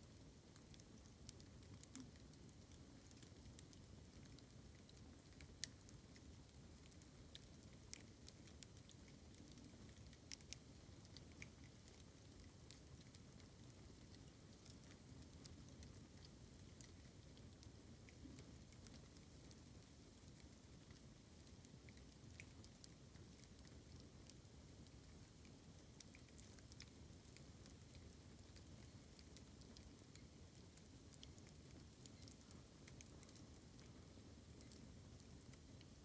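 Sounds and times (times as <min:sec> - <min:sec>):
bamboo crackling and popping in fire: 0:00.2 - 0:36.0.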